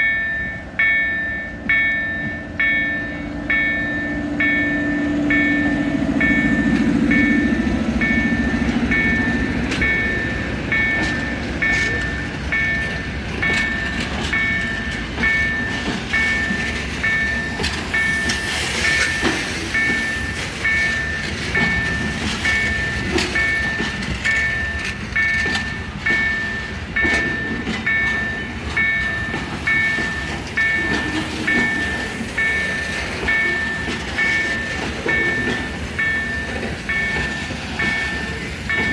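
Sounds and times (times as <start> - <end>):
high beeping warning tone: 0.0 - 38.9
low held tone: 0.0 - 38.9
train wheels clacking over rail joints: 0.0 - 38.9.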